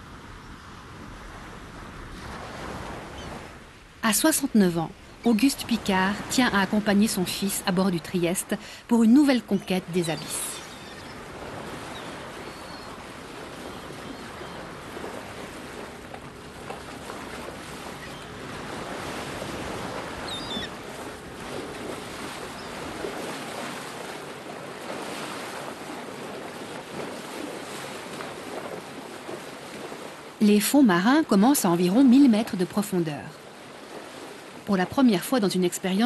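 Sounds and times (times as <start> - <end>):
sea waves washing: 0.0 - 36.0.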